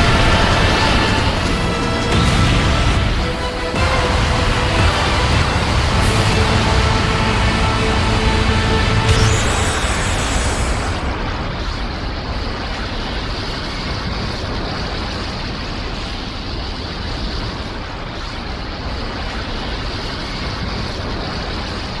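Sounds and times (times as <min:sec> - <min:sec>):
rushing rumble: 0:00.0 - 0:22.0.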